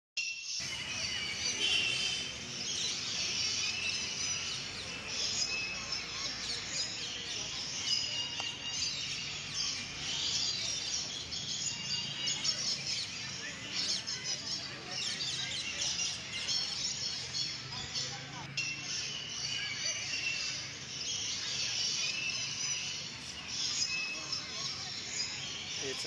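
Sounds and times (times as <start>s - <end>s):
birds chirping and whistling: 0.2s - 26.0s.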